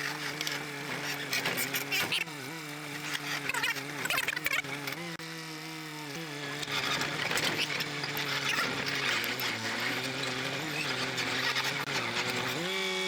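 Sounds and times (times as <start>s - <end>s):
hydraulics working noise: 0.0s - 13.0s.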